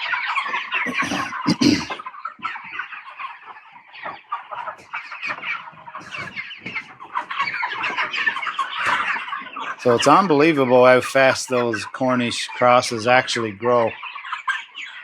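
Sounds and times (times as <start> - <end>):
chickens clucking and peeping: 0.0 - 15.0.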